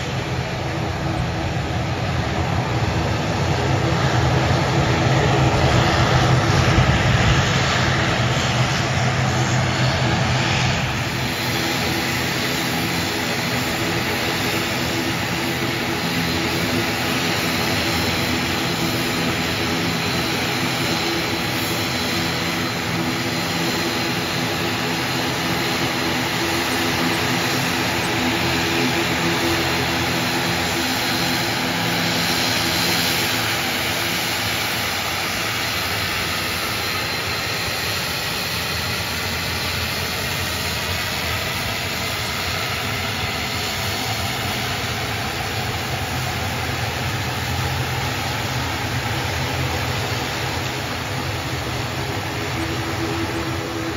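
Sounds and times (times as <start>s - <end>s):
high turbine whine: 0.0s - 53.9s
turboprop propeller drone: 0.0s - 53.9s.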